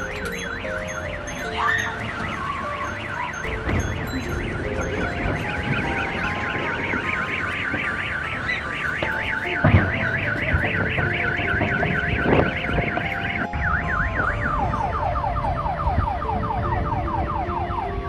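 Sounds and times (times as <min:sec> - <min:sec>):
car alarm warbling: 0:00.0 - 0:18.0.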